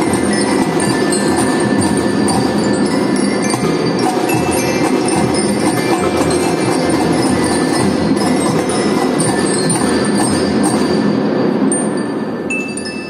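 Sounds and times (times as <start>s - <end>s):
snare and bass drums: 0.0s - 11.1s
marching glockenspiels ringing: 0.0s - 13.0s.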